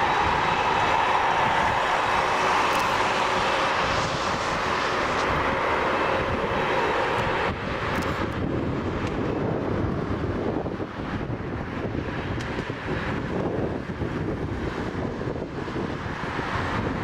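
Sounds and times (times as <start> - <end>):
jet airliner flying past: 0.0 - 17.0.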